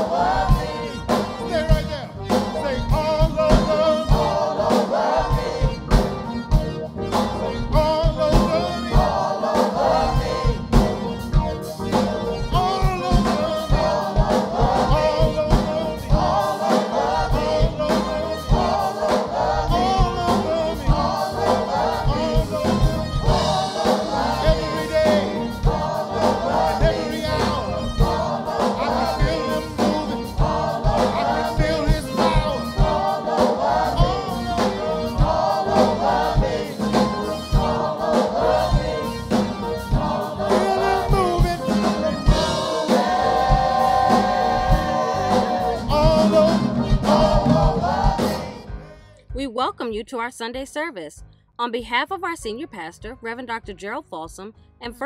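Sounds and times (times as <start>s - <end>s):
group singing into microphones: 0.0s - 49.2s
drum kit beat: 0.0s - 51.0s.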